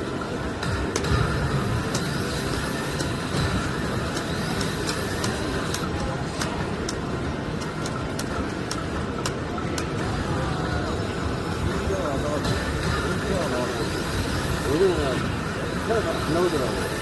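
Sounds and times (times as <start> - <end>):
crowd hubbub: 0.0 - 17.0
slot machines: 0.0 - 17.0.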